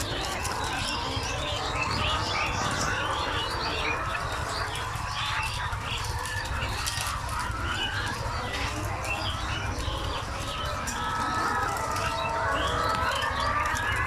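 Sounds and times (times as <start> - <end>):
flock of chickens calling: 0.0 - 14.0.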